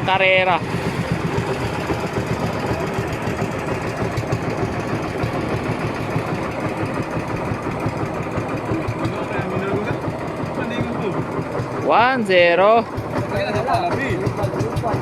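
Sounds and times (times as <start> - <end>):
boat engine running steadily: 0.0 - 15.0.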